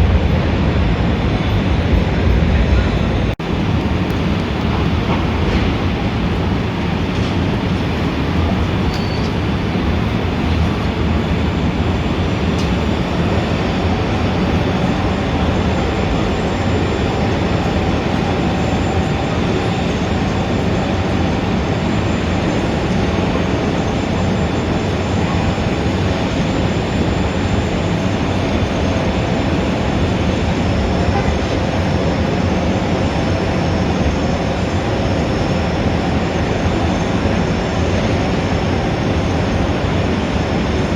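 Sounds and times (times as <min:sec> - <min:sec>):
heavy street traffic rumble: 0:00.0 - 0:40.9.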